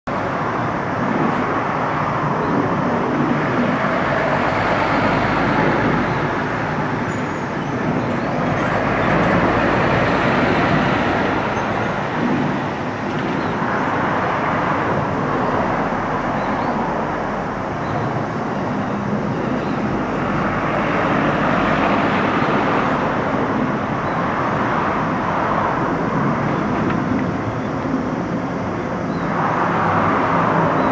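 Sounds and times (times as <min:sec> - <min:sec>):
vehicles passing: 0:00.1 - 0:30.9.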